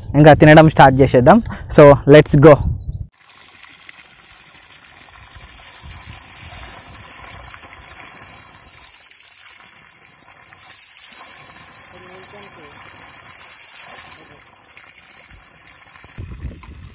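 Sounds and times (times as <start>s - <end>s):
water pouring and splashing: 3.1s - 16.9s.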